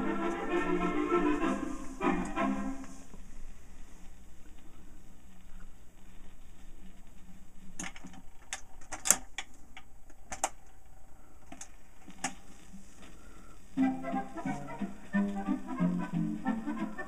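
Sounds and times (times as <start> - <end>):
record changer hum: 0.0 - 17.0.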